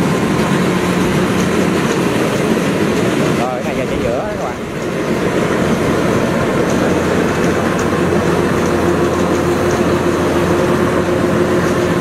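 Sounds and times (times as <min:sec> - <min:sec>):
combine harvester running: 0:00.0 - 0:12.0
steady hum: 0:00.0 - 0:12.0.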